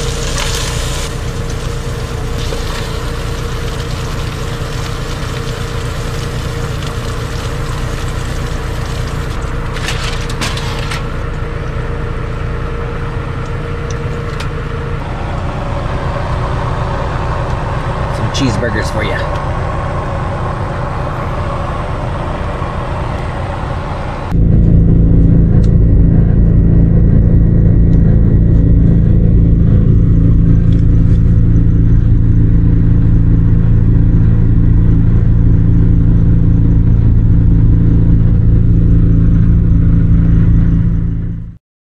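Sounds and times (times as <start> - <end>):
air heater droning: 0.0 - 41.4.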